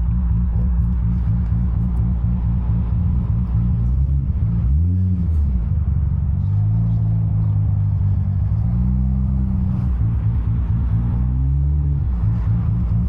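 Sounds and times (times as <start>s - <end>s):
car engine droning while driving: 0.0s - 13.0s.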